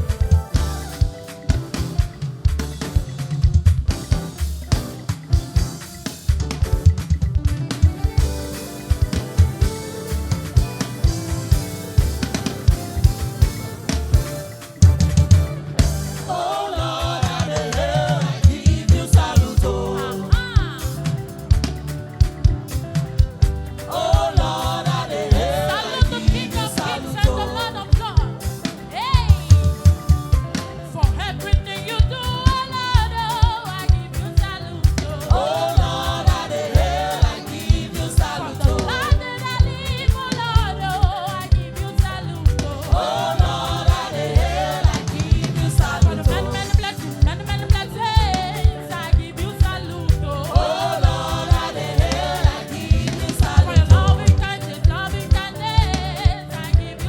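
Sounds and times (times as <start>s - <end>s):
gospel singing voices: 0.0s - 6.3s, 7.9s - 57.0s
driving drum beat: 0.0s - 57.0s.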